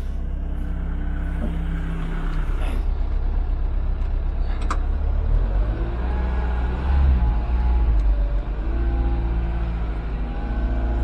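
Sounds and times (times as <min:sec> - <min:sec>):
diesel engine rumble: 0:00.0 - 0:11.0.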